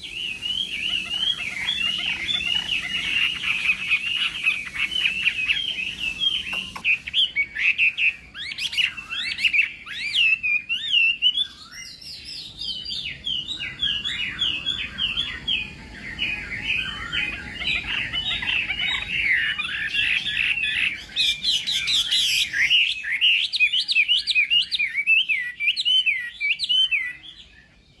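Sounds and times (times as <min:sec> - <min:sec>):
bird singing whistled notes: 0:00.0 - 0:28.0.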